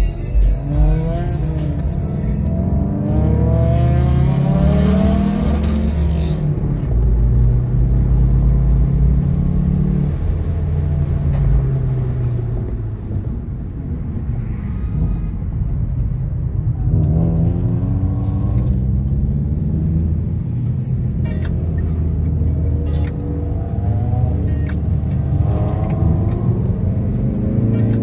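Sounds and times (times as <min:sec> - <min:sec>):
road and tyre rumble: 0:00.0 - 0:28.0
car engine accelerating: 0:00.6 - 0:28.0.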